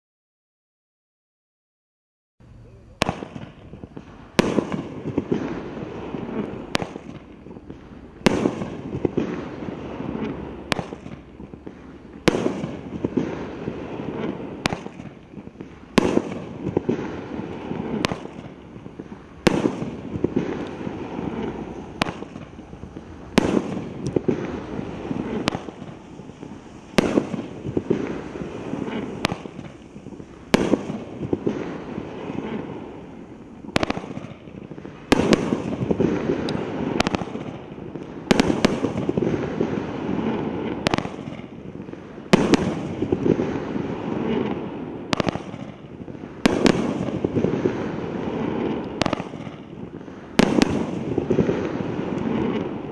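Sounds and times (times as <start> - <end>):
continuous noisy haze: 2.4 - 52.9
firework shells bursting: 2.9 - 52.9.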